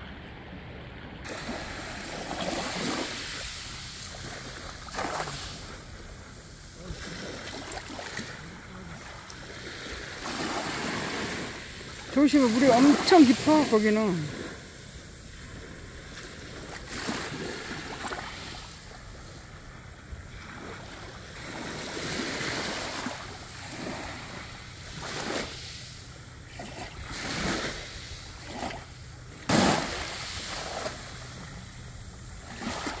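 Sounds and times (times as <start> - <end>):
small waves washing: 0.0 - 33.0.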